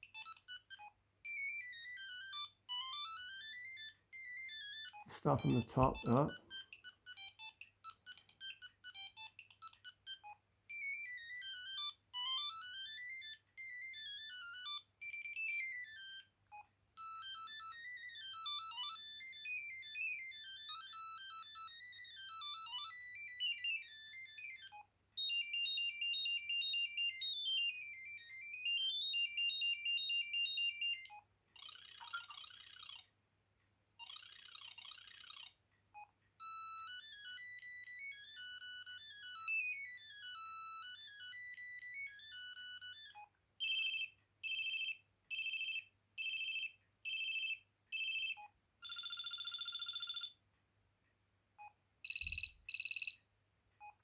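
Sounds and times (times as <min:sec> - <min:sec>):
phone ringtones: 0:00.0 - 0:16.3, 0:17.0 - 0:33.1, 0:34.0 - 0:50.4, 0:52.0 - 0:53.2.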